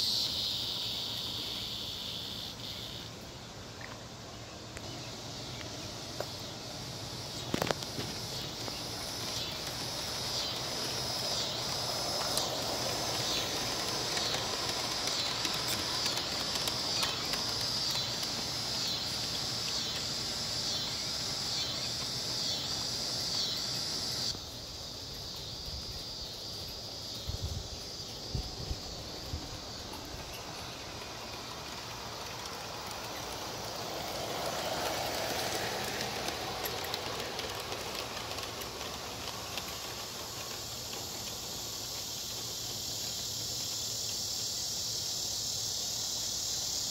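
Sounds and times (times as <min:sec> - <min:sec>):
steam locomotive hissing and chuffing: 0:00.0 - 0:46.9
wheels clicking on track: 0:00.0 - 0:46.9.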